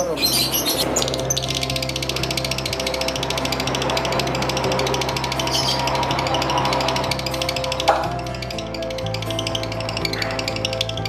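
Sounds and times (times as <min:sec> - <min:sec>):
lovebird chattering trill: 0:00.0 - 0:11.0.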